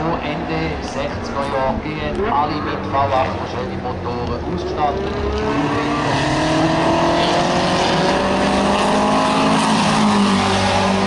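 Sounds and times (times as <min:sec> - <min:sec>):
race car engine accelerating: 0:02.0 - 0:11.0.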